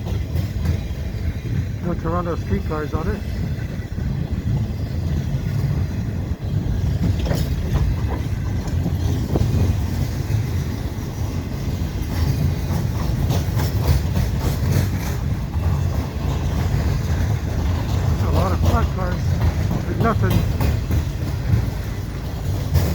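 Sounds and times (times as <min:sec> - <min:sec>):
freight train rumbling past: 0:00.0 - 0:22.9
wheels clacking over rail joints: 0:00.0 - 0:22.9.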